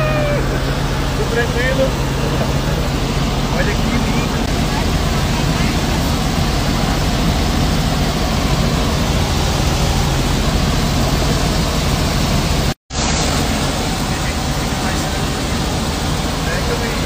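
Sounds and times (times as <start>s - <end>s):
helicopter engine and rotor: 0.0s - 17.0s.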